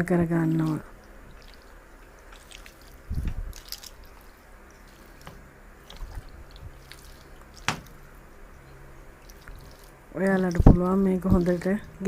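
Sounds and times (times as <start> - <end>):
wet squelching in a bowl: 0.0 - 12.0.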